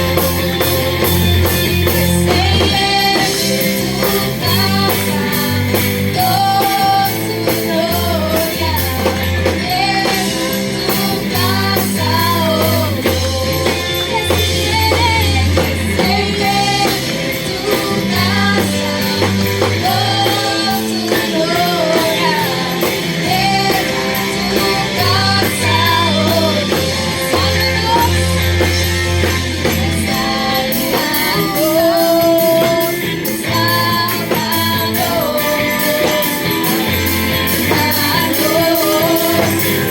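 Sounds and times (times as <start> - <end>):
bass line: 0.0 - 39.9
drum beat: 0.0 - 39.9
person singing: 0.0 - 39.9
strummed guitar: 0.0 - 39.9.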